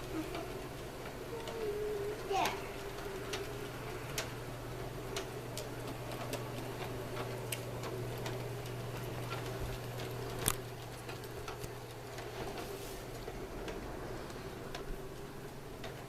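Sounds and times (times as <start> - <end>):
toy train clicking: 0.0 - 16.0
toy train motor hum: 0.0 - 16.0.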